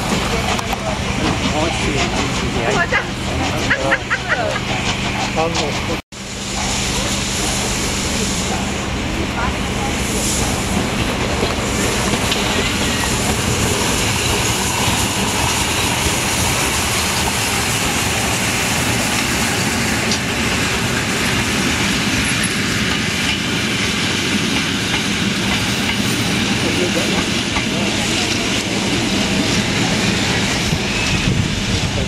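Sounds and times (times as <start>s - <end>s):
steam locomotive exhaust: 0.0s - 32.0s.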